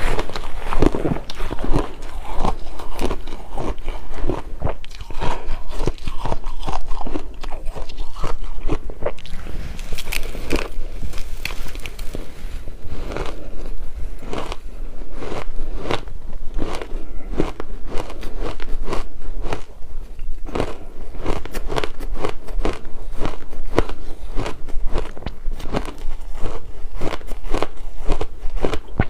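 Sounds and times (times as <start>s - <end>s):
chewing crunchy ice: 0.0s - 29.0s.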